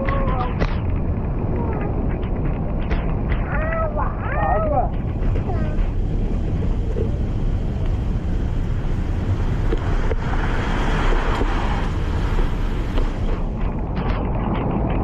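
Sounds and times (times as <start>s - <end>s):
stroller rolling over concrete: 0.0s - 15.0s
wind on microphone: 0.0s - 15.0s.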